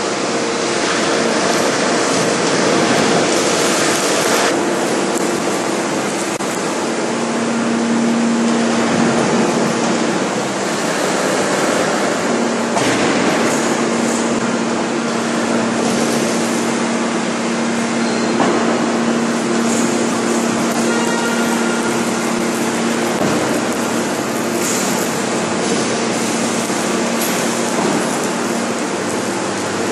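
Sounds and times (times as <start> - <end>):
constant low hum: 0.0 - 29.9
hydraulic press roaring: 0.0 - 29.9.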